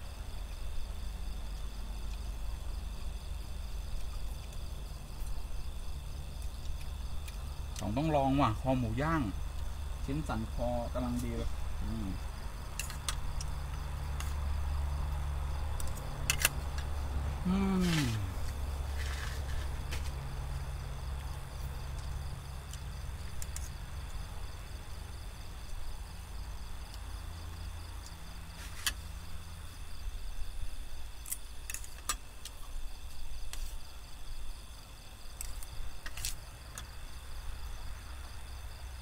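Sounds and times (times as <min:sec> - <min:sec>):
crickets trilling: 0:00.0 - 0:39.0
low continuous hum: 0:00.0 - 0:39.0.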